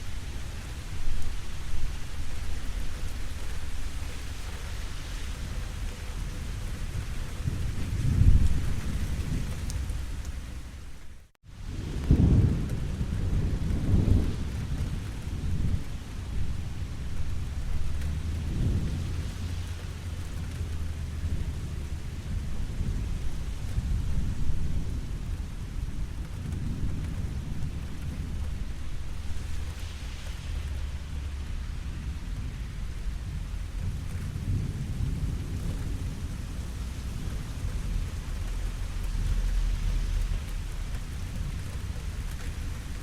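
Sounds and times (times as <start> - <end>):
low rolling thunder: 0.0 - 43.0
steady rainfall: 0.0 - 43.0.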